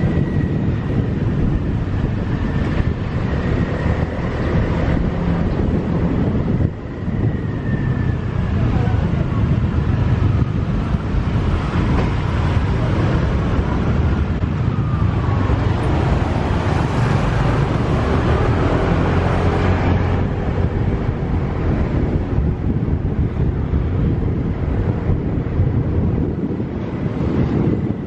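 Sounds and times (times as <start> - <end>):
passing traffic: 0.0 - 28.0.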